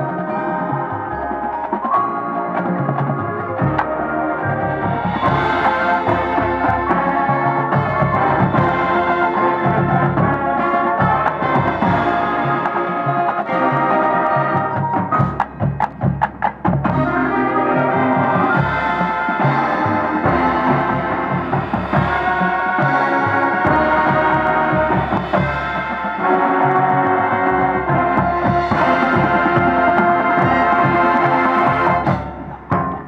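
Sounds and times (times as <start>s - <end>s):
marching band playing: 0.0s - 33.0s
sharp percussion hits: 0.0s - 33.0s.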